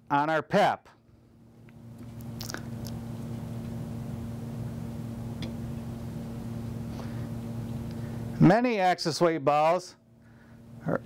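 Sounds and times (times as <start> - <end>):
steady electric hum: 0.0 - 11.0.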